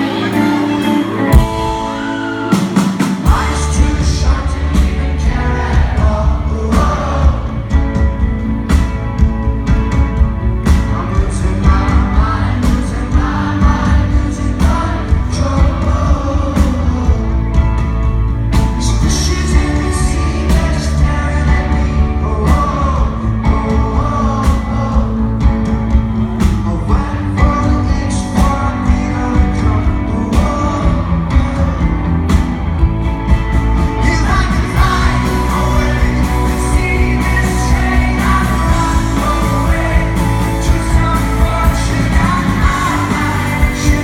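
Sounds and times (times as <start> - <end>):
person singing lead vocals: 0.0 - 44.0
rock band playing live: 0.0 - 44.0.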